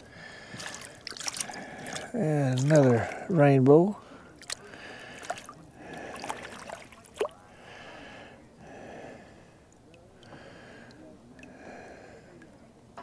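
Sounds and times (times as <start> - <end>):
person breathing heavily: 0.0 - 3.4, 4.0 - 12.4.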